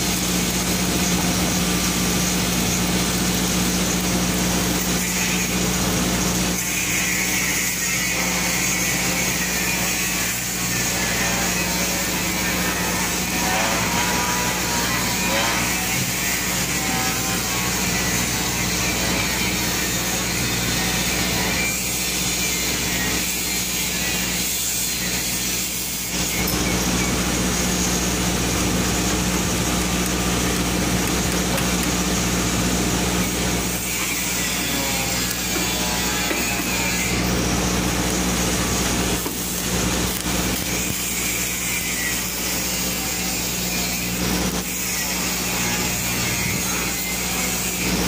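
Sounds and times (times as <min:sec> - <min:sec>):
welding arc crackling and hissing: 0:00.0 - 0:48.0
welding machine low hum: 0:00.0 - 0:48.0.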